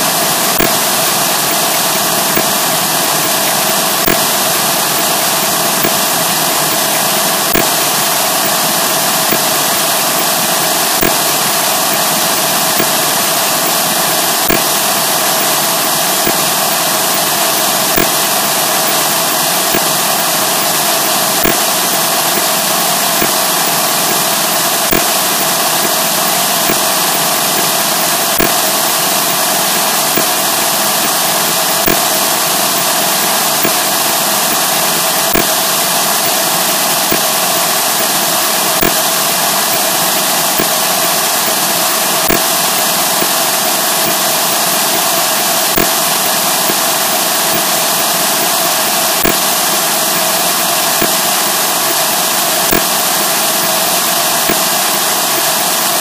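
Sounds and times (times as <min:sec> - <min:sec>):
loud harsh static noise: 0:00.0 - 0:56.0.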